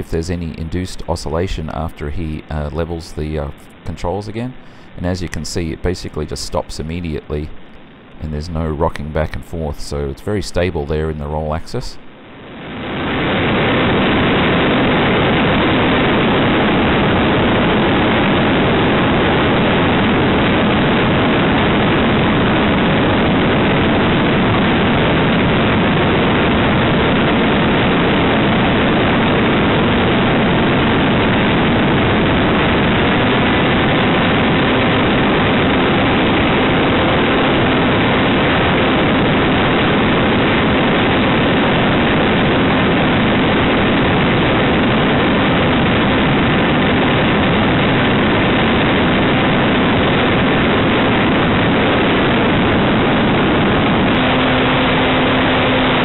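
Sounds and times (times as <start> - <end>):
model aircraft engine and wind rush: 0.0 - 56.0.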